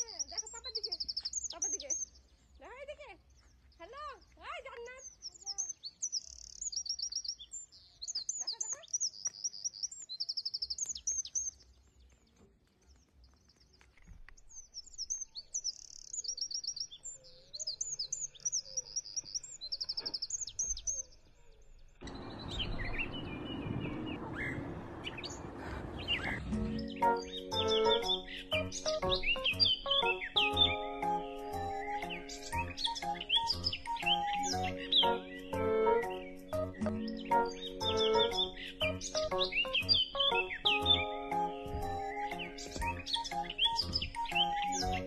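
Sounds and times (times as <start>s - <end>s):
small birds singing: 0.0s - 45.0s.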